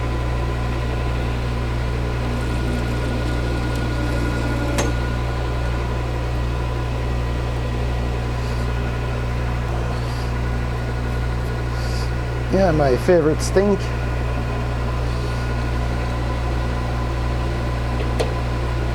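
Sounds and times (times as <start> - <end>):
metal lathe motor hum: 0.0 - 18.9
thin steady whines: 0.0 - 18.9.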